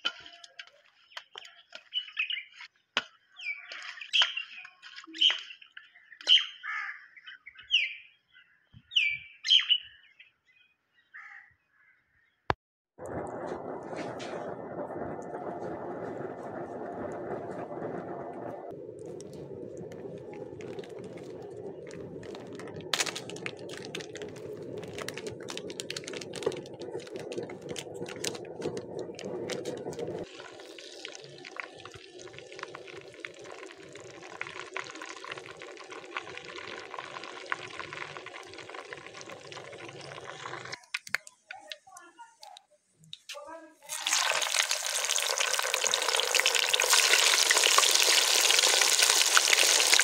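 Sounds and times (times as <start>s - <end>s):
oil crackling and sizzling: 0.0s - 5.8s, 13.0s - 41.4s, 43.8s - 50.0s.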